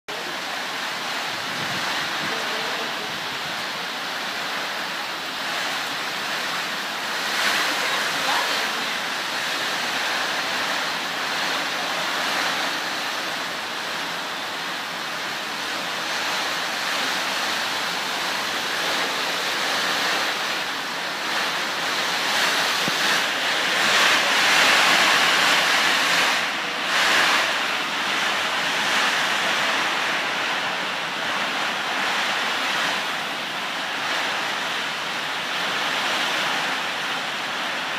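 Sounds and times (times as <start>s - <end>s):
heavy rain downpour: 0.1s - 37.9s.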